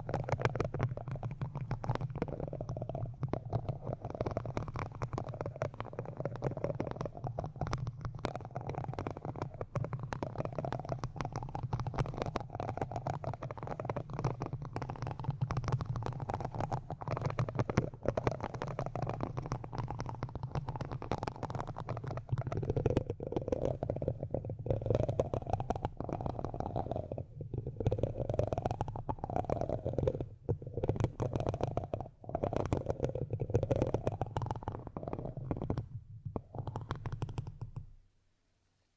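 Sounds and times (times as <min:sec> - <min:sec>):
microphone rubbing and scratching: 0:00.0 - 0:38.0.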